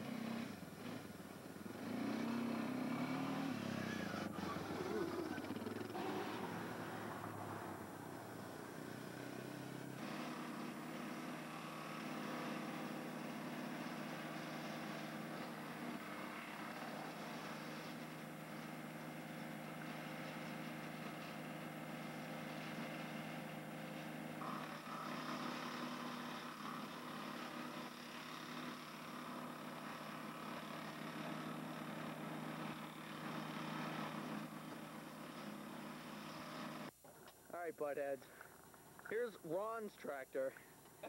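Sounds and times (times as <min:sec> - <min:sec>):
small engine idling: 0:00.0 - 0:37.4.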